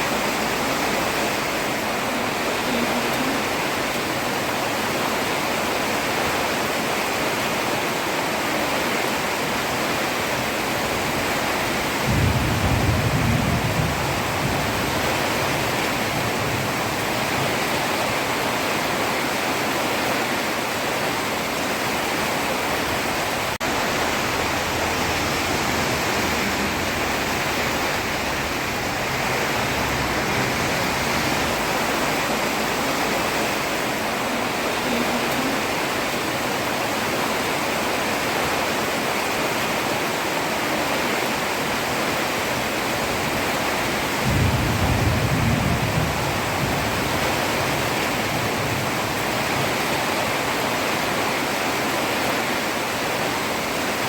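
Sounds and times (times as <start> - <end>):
heavy rain on a road: 0.0 - 54.0.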